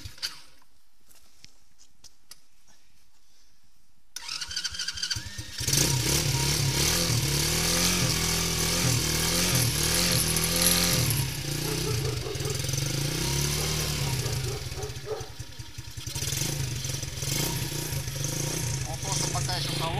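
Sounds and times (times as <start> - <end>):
quad bike engine starting and running: 0.0 - 0.6, 4.2 - 19.9.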